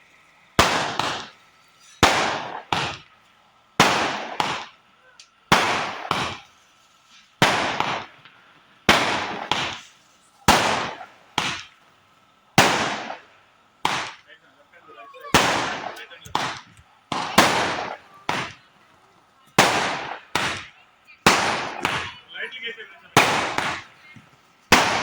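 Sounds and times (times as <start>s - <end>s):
firework cake bangs: 0.6s - 3.2s, 3.8s - 4.8s, 5.5s - 12.0s, 12.6s - 25.0s.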